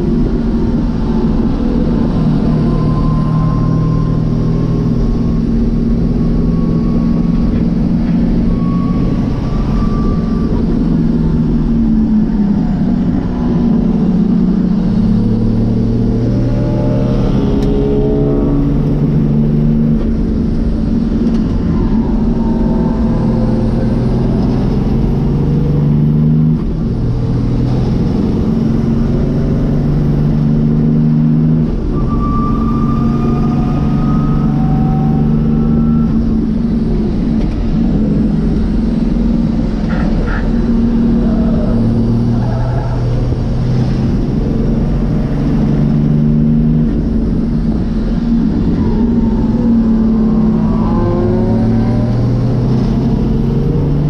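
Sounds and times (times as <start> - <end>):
diesel engine revving in car: 0.0 - 54.0.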